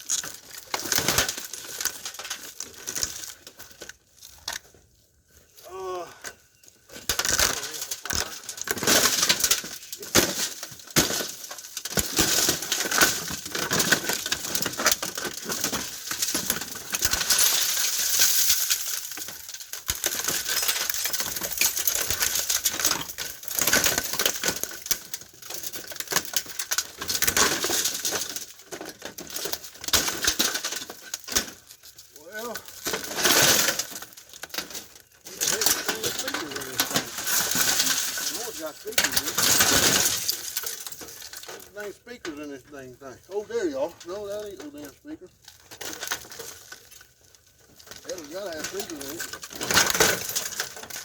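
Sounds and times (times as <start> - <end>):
metal and plastic parts clattering: 0.0 - 4.9, 6.2 - 51.0.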